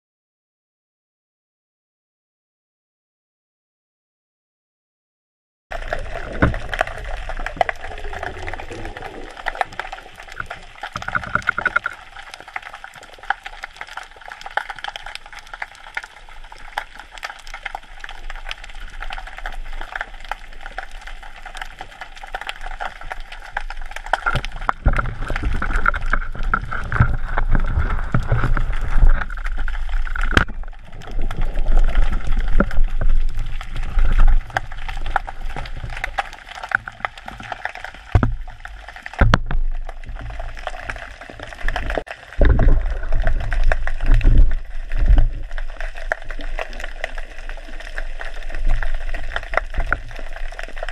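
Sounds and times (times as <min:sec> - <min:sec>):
low rumbles of water movement: 0:05.7 - 0:50.9
underwater crackling hiss: 0:05.8 - 0:50.9.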